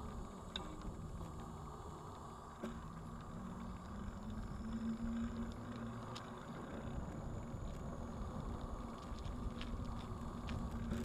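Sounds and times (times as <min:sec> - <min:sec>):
faint hum: 0:00.0 - 0:11.0
light ticks: 0:00.0 - 0:11.0
vehicle rolling on pavement: 0:00.0 - 0:11.0.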